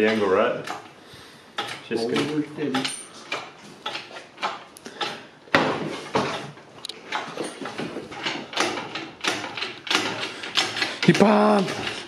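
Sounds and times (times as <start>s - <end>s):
engine knocks and clunks: 1.6s - 12.0s.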